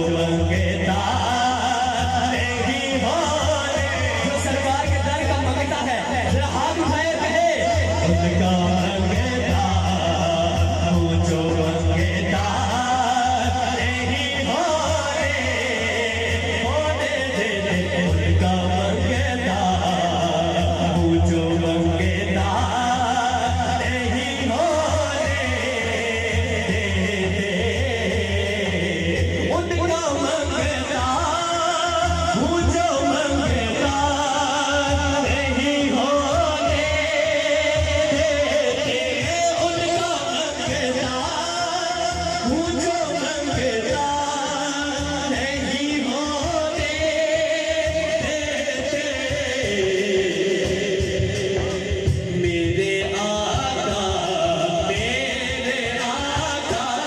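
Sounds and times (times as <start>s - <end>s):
man singing devotional song: 0.0s - 57.0s.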